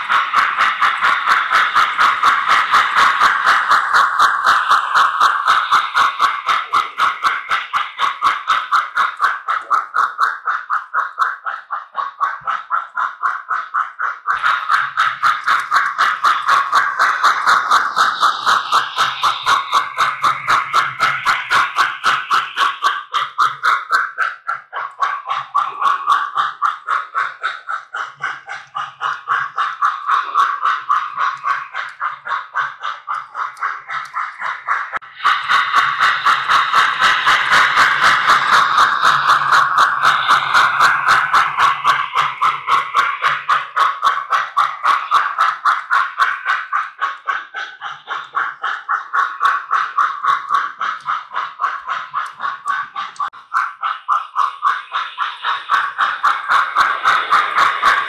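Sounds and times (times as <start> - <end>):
model locomotive steam chuffs: 0.0 - 58.0.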